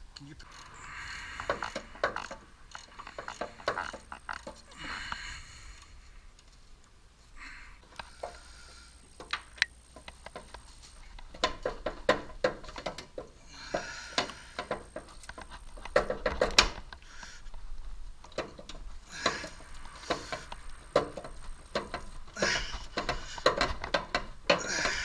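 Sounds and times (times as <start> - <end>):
rustling: 0.4 - 12.0, 12.6 - 25.0.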